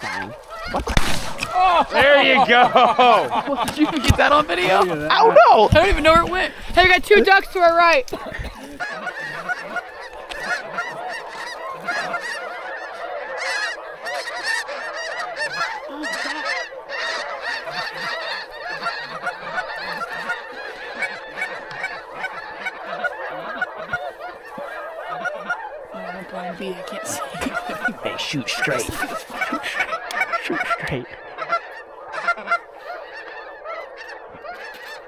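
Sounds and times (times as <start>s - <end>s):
flock of geese honking: 0.0s - 35.0s.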